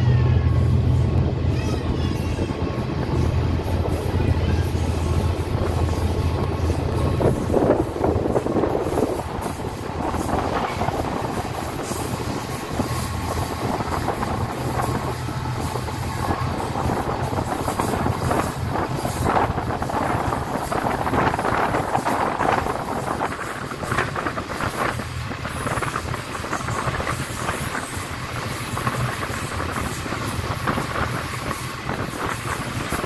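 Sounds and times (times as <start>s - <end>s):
low steady drone: 0.0s - 32.8s
train wheels rumbling on rails: 0.0s - 33.0s.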